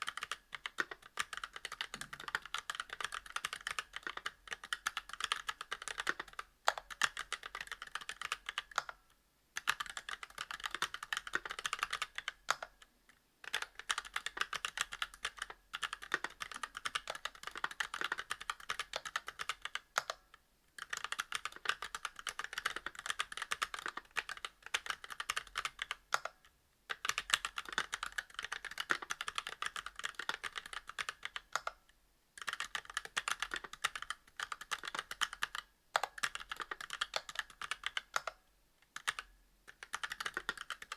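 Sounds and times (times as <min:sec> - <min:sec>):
fast mechanical keyboard typing: 0:00.0 - 0:09.0, 0:09.6 - 0:12.7, 0:13.5 - 0:20.2, 0:20.8 - 0:31.7, 0:32.4 - 0:38.4, 0:39.0 - 0:40.9.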